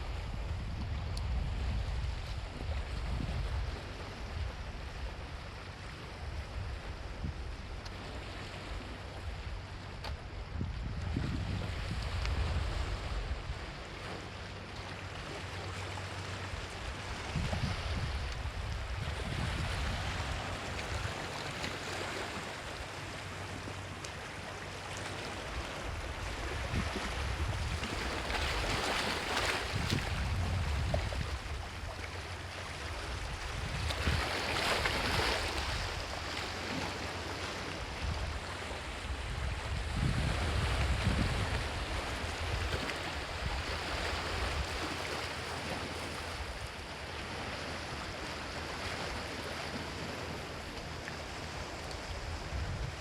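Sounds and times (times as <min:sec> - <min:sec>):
sea waves washing onto shore: 0:00.0 - 0:53.0
wind rumble on microphone: 0:00.0 - 0:53.0.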